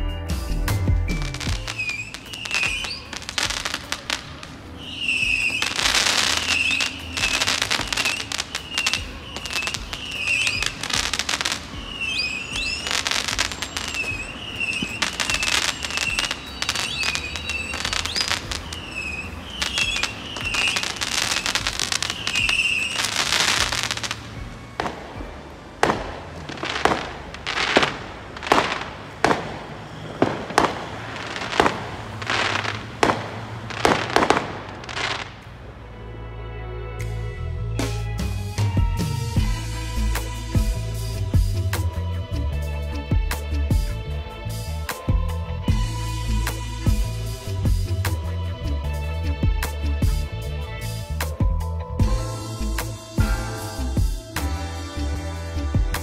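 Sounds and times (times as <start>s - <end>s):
fireworks crackling and banging: 0.8s - 35.8s, 43.1s - 48.7s, 49.3s - 56.0s.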